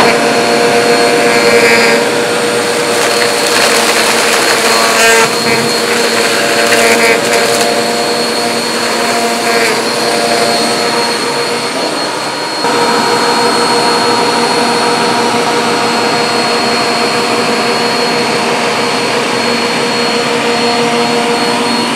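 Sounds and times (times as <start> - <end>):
upright vacuum cleaner running: 0.0 - 21.9.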